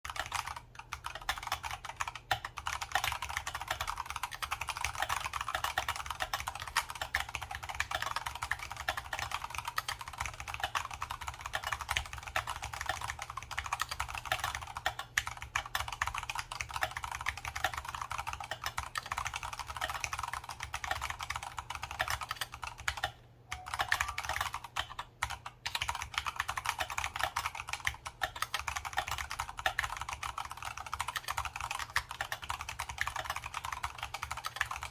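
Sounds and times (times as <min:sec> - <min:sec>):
fast typing on mechanical keyboard: 0:00.1 - 0:34.9.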